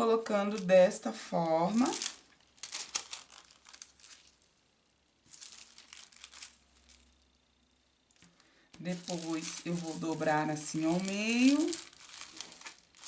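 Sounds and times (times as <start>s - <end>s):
cellophane crinkling: 0.0s - 4.6s, 5.2s - 7.4s, 8.2s - 13.0s.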